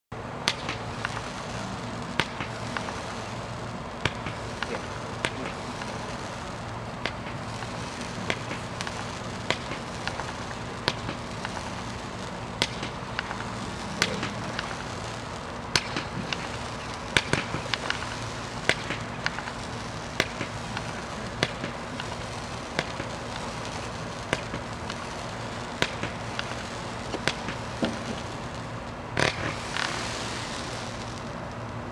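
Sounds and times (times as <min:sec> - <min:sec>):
firework hiss: 0:00.2 - 0:31.9
firework launch pops: 0:00.4 - 0:31.6.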